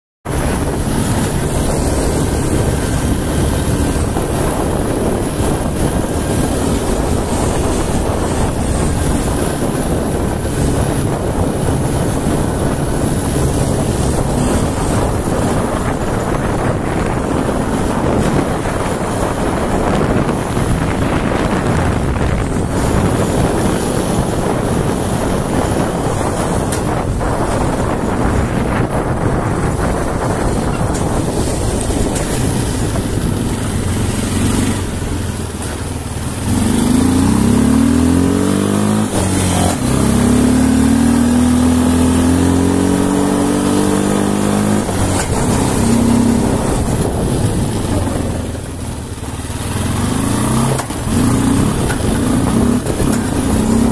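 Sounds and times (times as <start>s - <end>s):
wind noise: 0.2s - 53.9s
atv engine drone: 0.3s - 53.9s.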